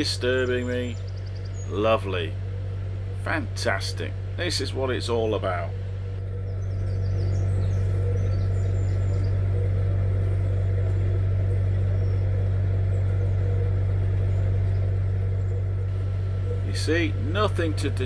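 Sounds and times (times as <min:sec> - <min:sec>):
faint bird chirps: 0:00.0 - 0:03.2, 0:05.0 - 0:17.9
boat engine running: 0:00.0 - 0:18.0.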